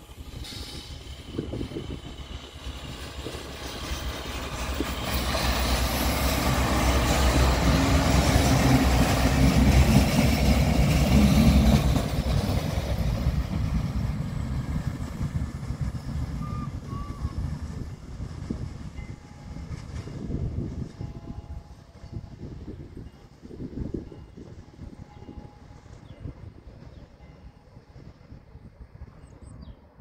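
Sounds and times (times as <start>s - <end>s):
diesel train passing by: 0.0s - 30.0s.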